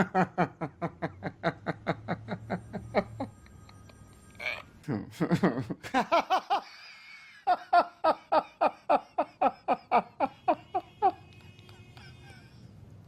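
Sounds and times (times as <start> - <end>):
hearty laughter: 0.0 - 3.9, 4.9 - 12.8.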